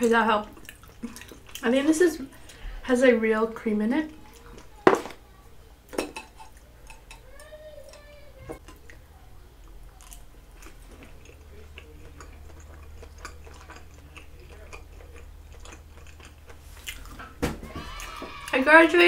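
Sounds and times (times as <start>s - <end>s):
chewing food: 0.0s - 2.6s, 4.2s - 4.8s, 6.2s - 18.6s.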